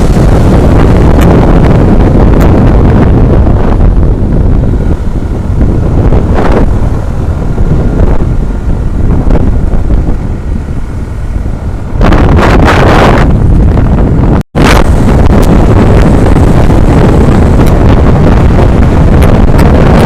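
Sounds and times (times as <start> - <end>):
road and engine rumble: 0.0 - 20.0
wind buffeting microphone: 0.0 - 20.0.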